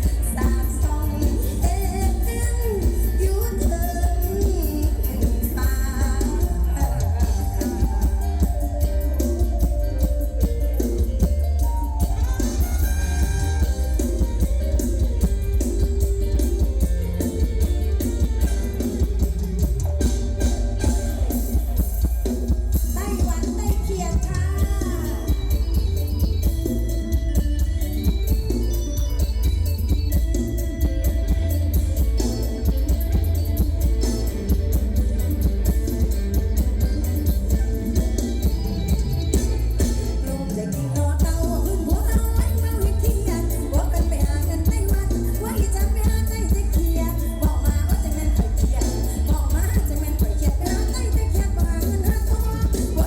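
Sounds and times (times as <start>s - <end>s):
drum kit fast beat: 0.0s - 53.0s
heavy bass: 0.0s - 53.0s.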